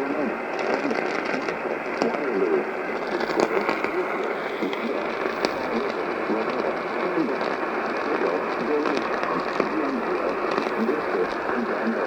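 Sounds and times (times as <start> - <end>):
faint voice: 0.0 - 12.0
radio static hiss: 0.0 - 12.0
static crackles: 0.0 - 12.0.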